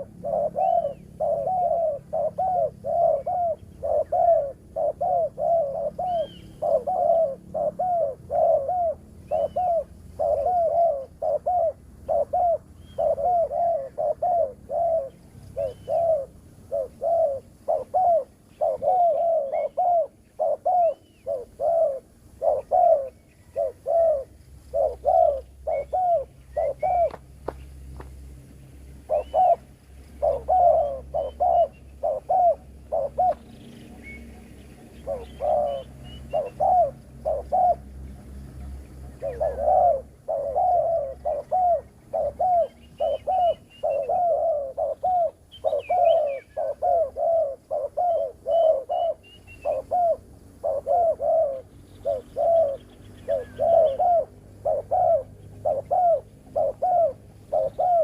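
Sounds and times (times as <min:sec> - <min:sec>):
dove cooing: 0:00.0 - 0:27.6, 0:28.9 - 0:58.0
small birds chirping faintly: 0:00.0 - 0:58.0.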